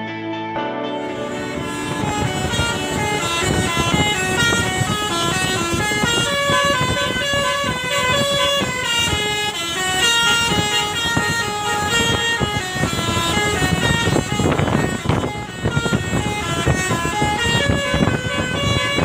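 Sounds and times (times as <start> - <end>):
musical air horn melody: 0.6 - 19.0.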